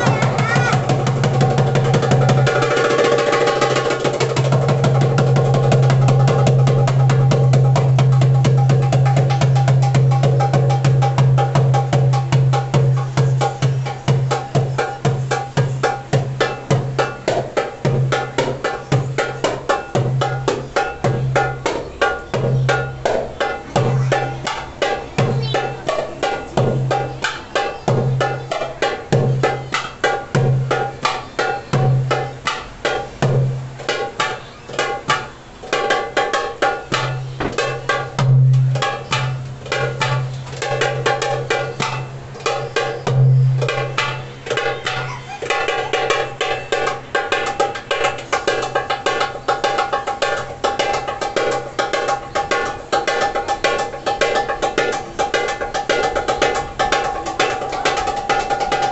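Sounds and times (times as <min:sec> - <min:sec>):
hand drum bass strokes: 0:00.0 - 0:58.9
hand drum high strokes: 0:00.0 - 0:58.9.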